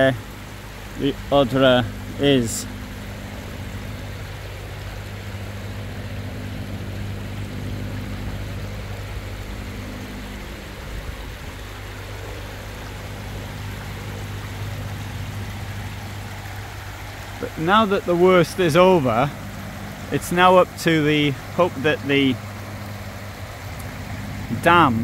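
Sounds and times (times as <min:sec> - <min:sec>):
floodwater rushing: 0:00.0 - 0:25.0
low steady hum: 0:00.0 - 0:25.0.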